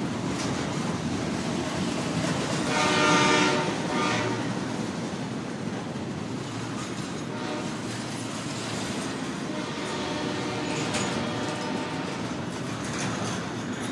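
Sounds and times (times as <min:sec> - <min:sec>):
freight train wheels on rails: 0:00.0 - 0:13.9.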